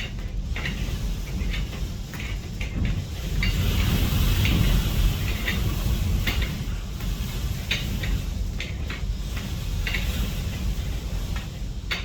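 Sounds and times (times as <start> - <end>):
wind rumbling against house: 0.0 - 12.0.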